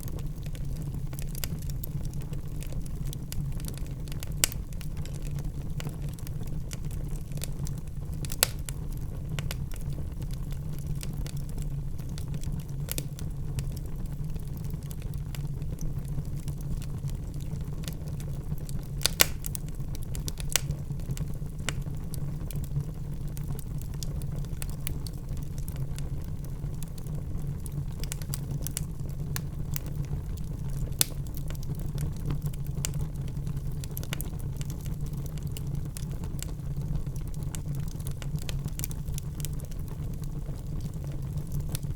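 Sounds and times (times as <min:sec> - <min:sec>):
fire crackling: 0:00.0 - 0:41.9
fire popping: 0:00.0 - 0:41.9.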